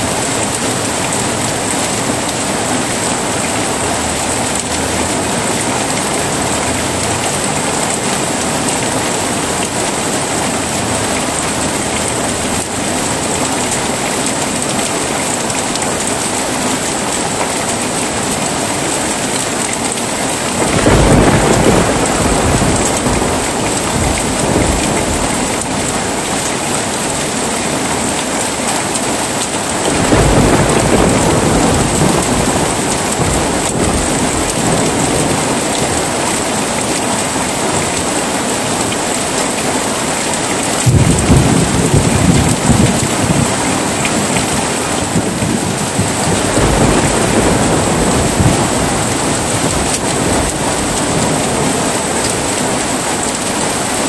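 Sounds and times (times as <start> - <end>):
thunder rumbling: 0.0 - 18.3, 20.2 - 28.6, 29.4 - 37.8, 40.7 - 53.6
heavy rain falling: 0.0 - 54.0.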